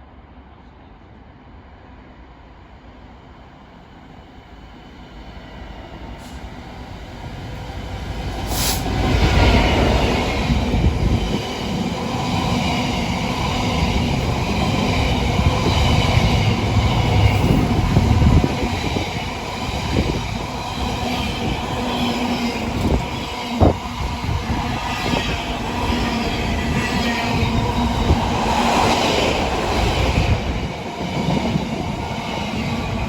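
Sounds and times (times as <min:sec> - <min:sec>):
train passing: 0:00.1 - 0:33.0.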